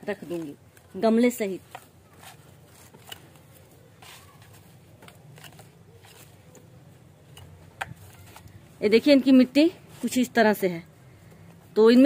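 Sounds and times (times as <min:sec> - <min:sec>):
dry foliage rustling: 0:00.0 - 0:12.0.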